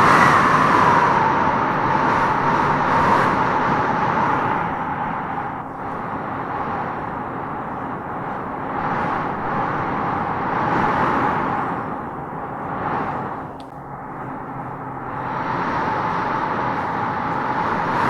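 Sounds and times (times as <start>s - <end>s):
wind howling through trees: 0.0s - 18.0s.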